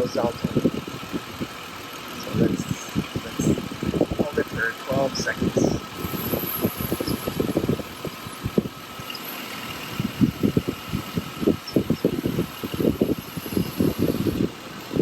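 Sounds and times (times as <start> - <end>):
air conditioning compressor whine: 0.0 - 15.0
truck engine idling: 0.0 - 15.0.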